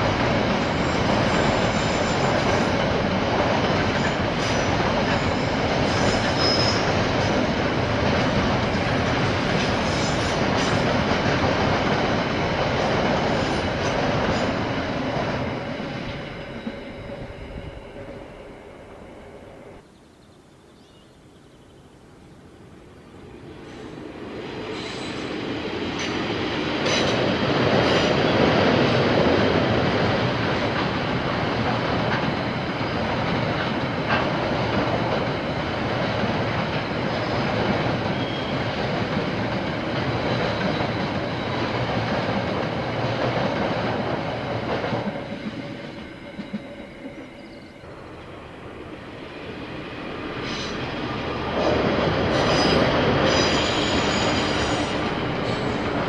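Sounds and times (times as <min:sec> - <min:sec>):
train passing: 0:00.0 - 0:19.8, 0:22.5 - 0:56.0.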